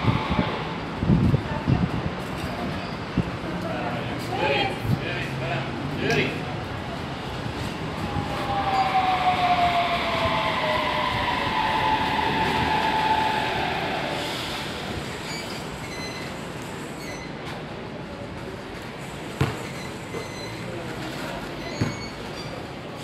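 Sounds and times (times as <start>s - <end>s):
metro train rolling: 0.0s - 23.0s.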